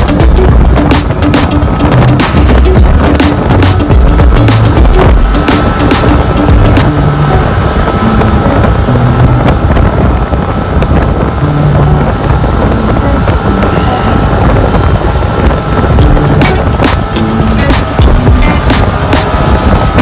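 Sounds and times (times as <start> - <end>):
speedboat engine running: 0.0 - 20.0
wind rushing over microphone: 0.0 - 20.0.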